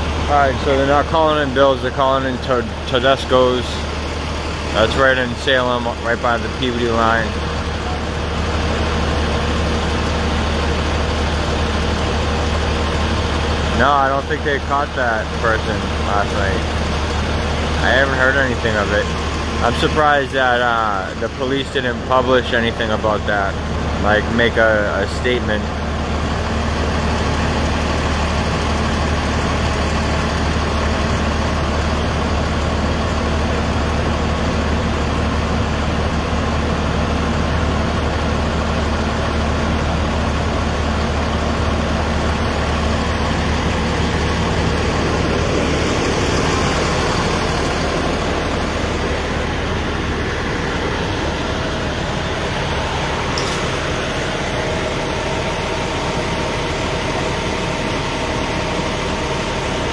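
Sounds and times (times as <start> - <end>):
heavy vehicle engine idling: 0.0 - 59.9.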